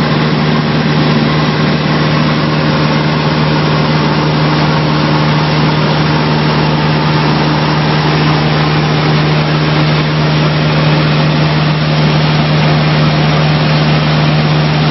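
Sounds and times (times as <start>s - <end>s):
airplane engine drone in cabin: 0.0s - 14.9s.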